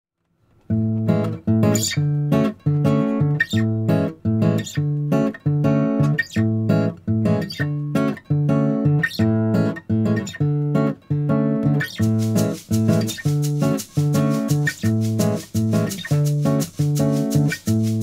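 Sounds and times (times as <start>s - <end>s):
acoustic guitar strumming chords: 0.7s - 18.0s.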